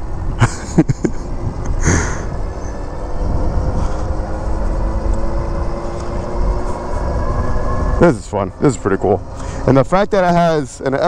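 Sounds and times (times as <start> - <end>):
electric bike motor whining: 0.0 - 10.6
wind rushing over microphone: 0.0 - 11.0.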